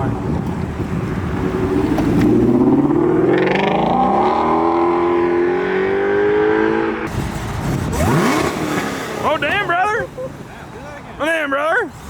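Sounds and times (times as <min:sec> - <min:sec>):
car engine accelerating: 0:00.8 - 0:10.8.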